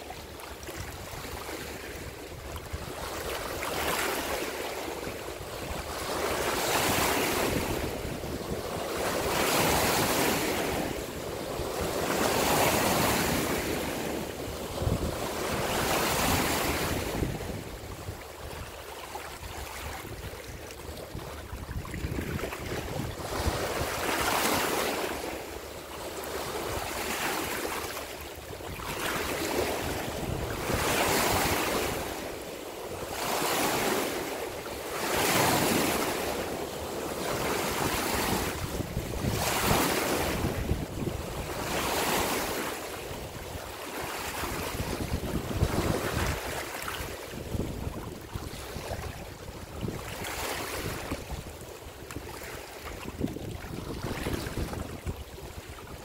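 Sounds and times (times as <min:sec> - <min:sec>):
small waves lapping: 0:00.0 - 0:56.0
wind rumbling on microphone: 0:00.6 - 0:25.3, 0:28.4 - 0:34.3, 0:37.2 - 0:56.0.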